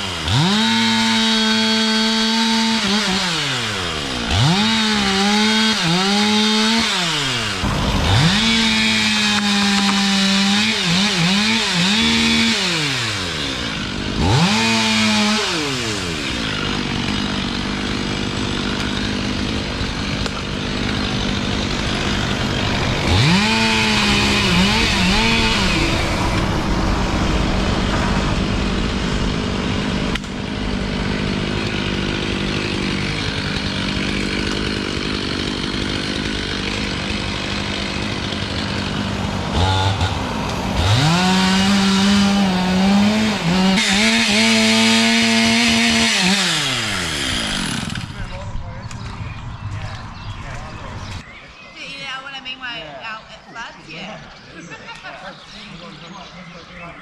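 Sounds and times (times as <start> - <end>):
chainsaw revving: 0.0 - 48.4.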